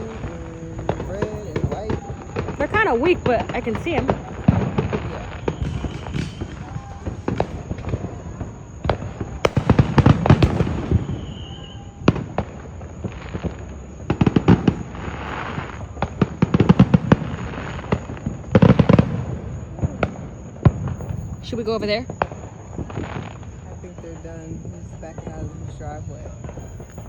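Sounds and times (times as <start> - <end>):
fireworks crackling pops: 0.0 - 27.0.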